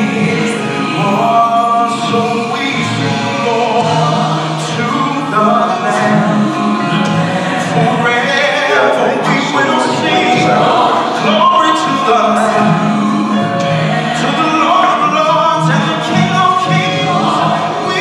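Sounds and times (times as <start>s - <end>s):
choir singing slow gospel: 0.0s - 18.0s.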